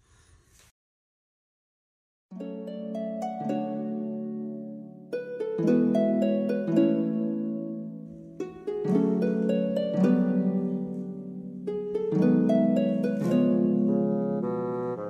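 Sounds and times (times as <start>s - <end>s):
plucked harp-like strings: 2.4s - 14.6s.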